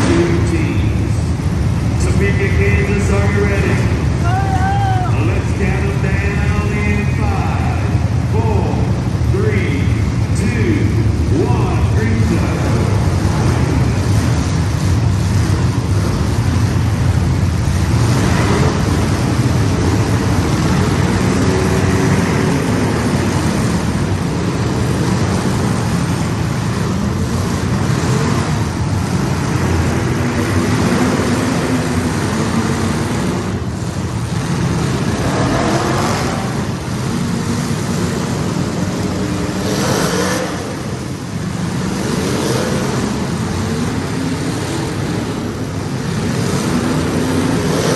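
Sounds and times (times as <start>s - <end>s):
race car engines at full throttle: 0.0s - 47.9s.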